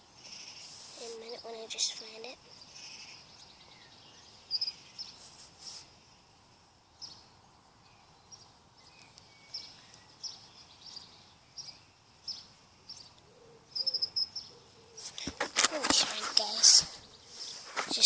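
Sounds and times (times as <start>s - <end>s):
faint outdoor background noise: 0.0s - 18.0s
small birds chirping: 0.0s - 18.0s.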